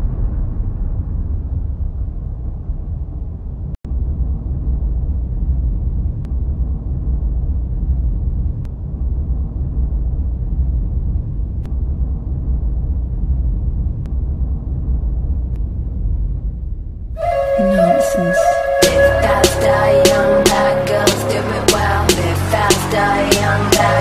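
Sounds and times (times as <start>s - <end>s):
deep rumbling drone: 0.0s - 24.0s.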